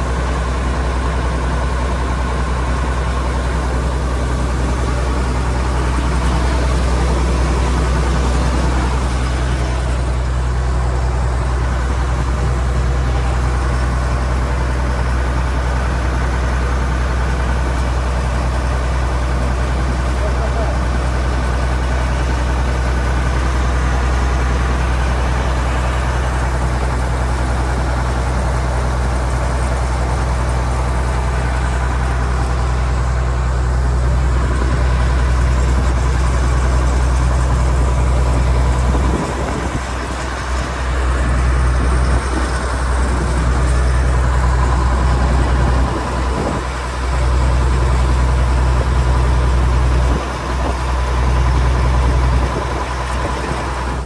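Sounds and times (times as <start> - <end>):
combine engine drone: 0.0 - 54.0.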